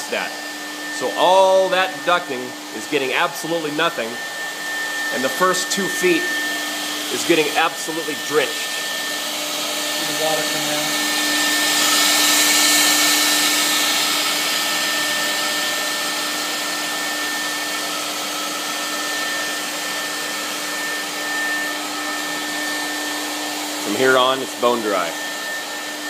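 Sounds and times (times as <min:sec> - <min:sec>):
electric fogger running: 0:00.0 - 0:26.0.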